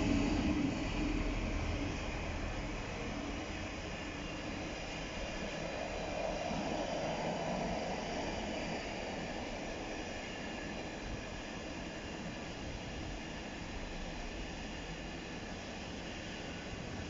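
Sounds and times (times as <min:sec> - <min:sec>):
train wheels on rail: 0:00.0 - 0:17.0.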